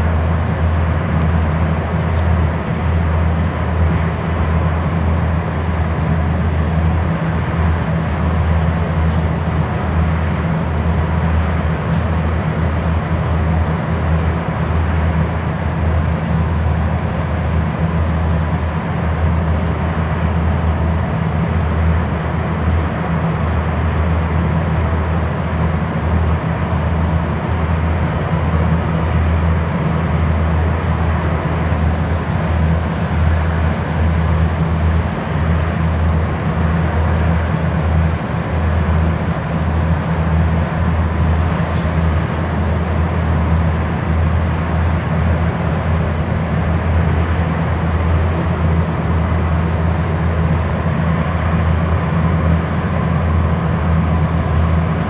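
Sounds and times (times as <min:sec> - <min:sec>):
locomotive machinery low drone: 0:00.0 - 0:55.0.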